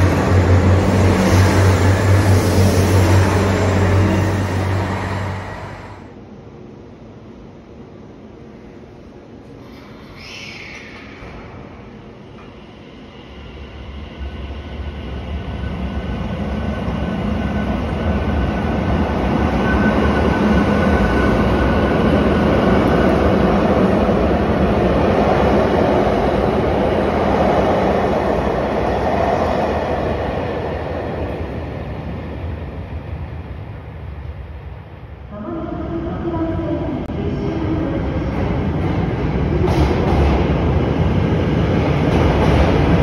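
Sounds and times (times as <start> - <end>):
train rumble and wheel noise: 0.0 - 43.0.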